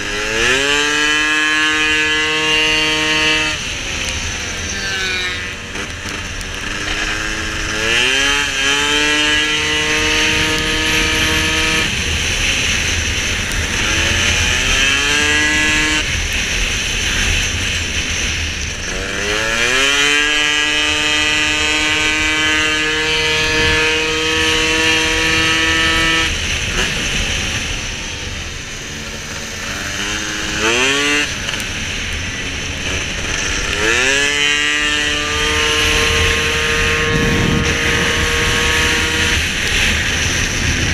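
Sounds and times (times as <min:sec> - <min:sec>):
scooter engine revving: 0:00.0 - 0:40.9.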